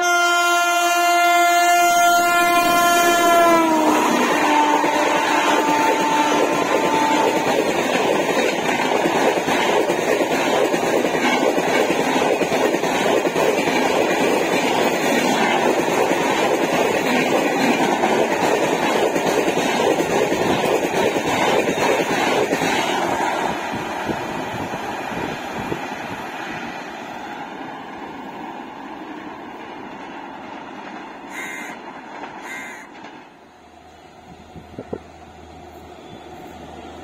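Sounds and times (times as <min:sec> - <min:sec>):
train rushing past: 0:00.0 - 0:37.0.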